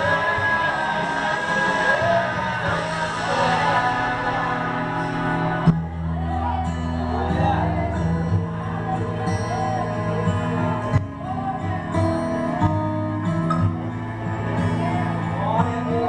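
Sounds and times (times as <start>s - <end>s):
person singing worship music: 0.0s - 16.0s
sustained bass notes: 0.0s - 16.0s.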